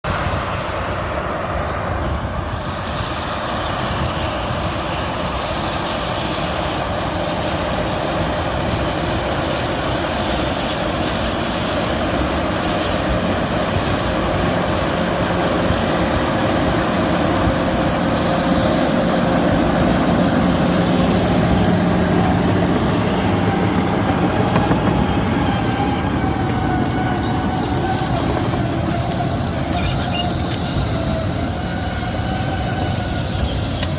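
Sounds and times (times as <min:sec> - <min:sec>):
bulldozer running: 0:00.0 - 0:33.9.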